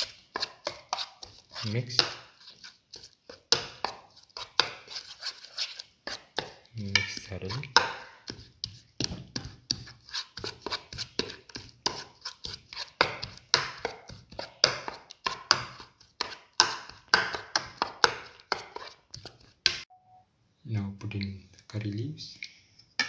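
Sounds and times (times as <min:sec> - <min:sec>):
spoon scraping ceramic bowl: 0:00.0 - 0:08.8, 0:09.4 - 0:19.5.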